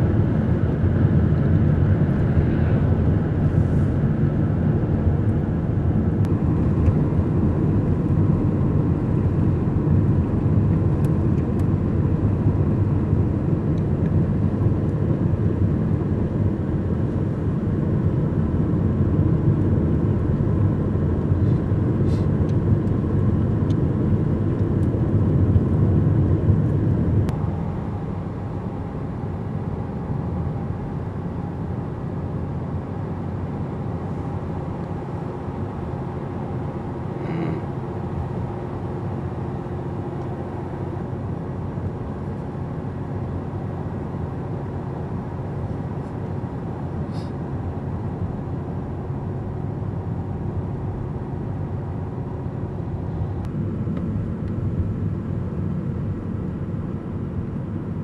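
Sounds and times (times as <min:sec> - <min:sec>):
car interior road rumble: 0:00.0 - 0:57.8.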